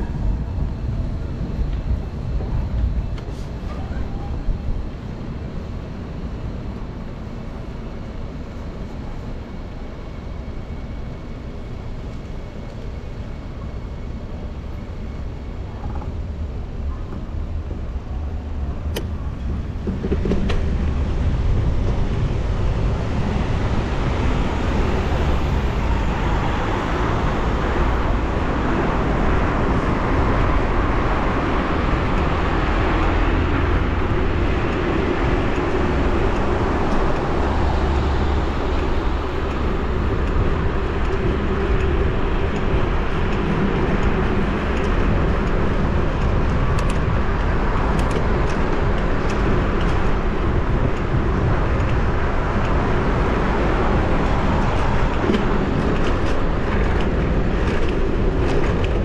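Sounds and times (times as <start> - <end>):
road and traffic noise: 0.0 - 59.0
wind buffeting microphone: 0.0 - 59.0.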